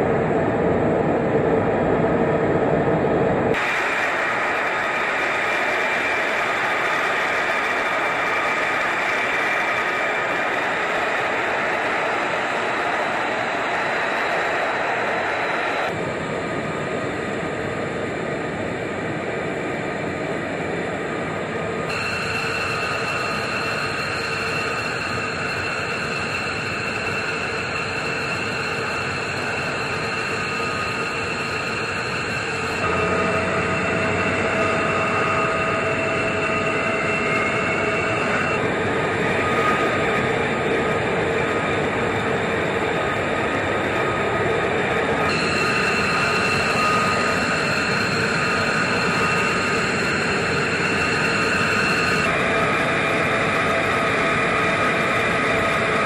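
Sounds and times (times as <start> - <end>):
jet engine whining and roaring: 0.0 - 56.0.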